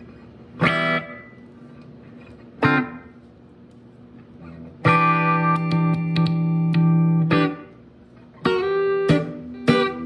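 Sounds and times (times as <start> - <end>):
electric guitar chords strummed: 0.5 - 3.3, 4.3 - 10.0.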